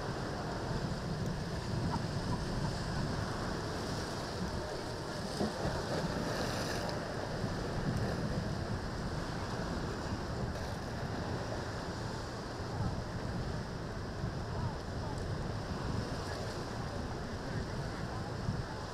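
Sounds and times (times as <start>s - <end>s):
surf washing and churning: 0.0s - 18.9s
wind buffeting microphone: 0.0s - 18.9s.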